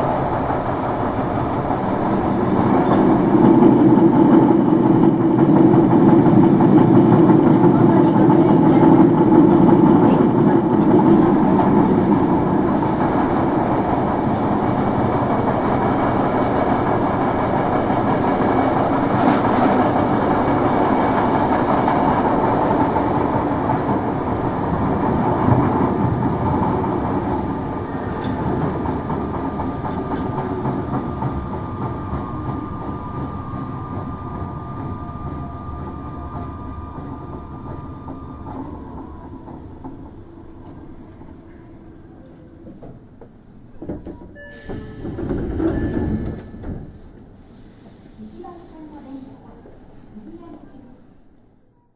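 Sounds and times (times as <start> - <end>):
subway car wheel noise: 0.0 - 51.9.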